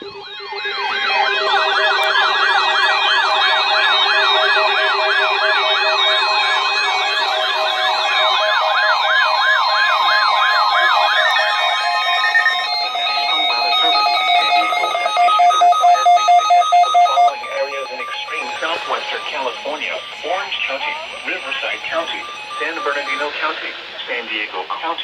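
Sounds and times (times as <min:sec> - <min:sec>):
electronic sirens yelping: 0:00.0 - 0:25.0.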